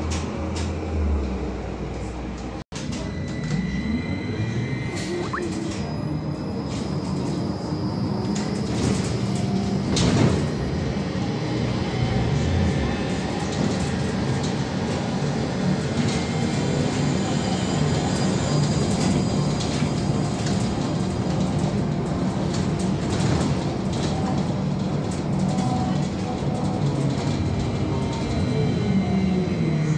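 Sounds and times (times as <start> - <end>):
trolleybus ride rumble: 0.0 - 29.9.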